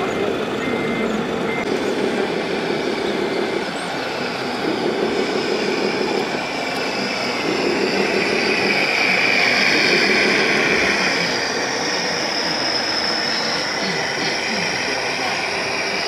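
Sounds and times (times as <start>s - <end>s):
high whine: 0.0s - 16.0s
model trucks mechanical hum: 0.0s - 16.0s.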